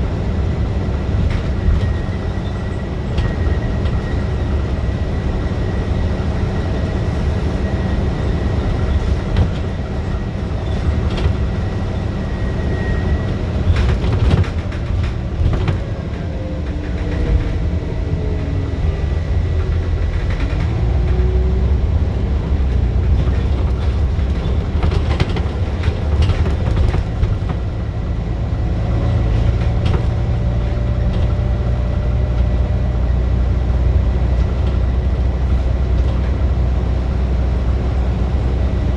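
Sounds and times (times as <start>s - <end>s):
bus diesel engine under load: 0.0s - 38.9s.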